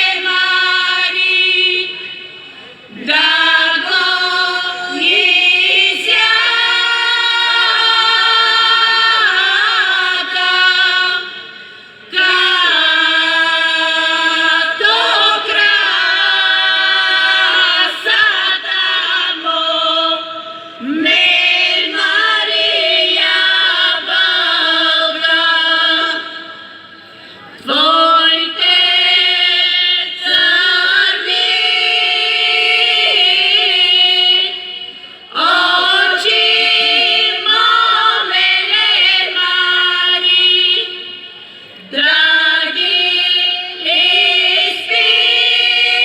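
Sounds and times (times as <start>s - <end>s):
women singing a cappella: 0.0s - 46.0s.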